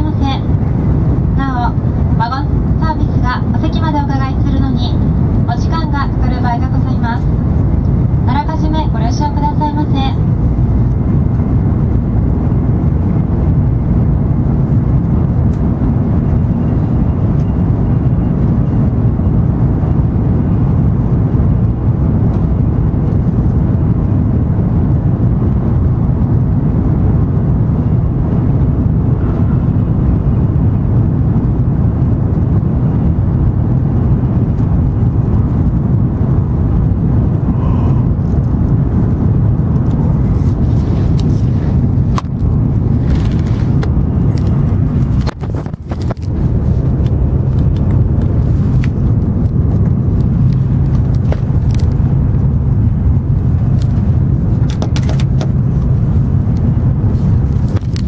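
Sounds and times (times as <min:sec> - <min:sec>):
train cabin low rumble: 0:00.0 - 0:58.0.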